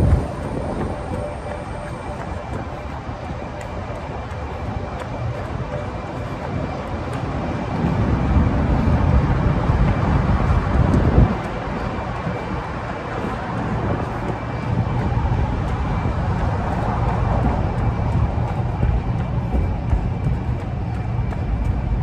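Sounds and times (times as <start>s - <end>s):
city traffic noise: 0.0s - 22.0s
wind buffeting microphone: 0.0s - 22.0s.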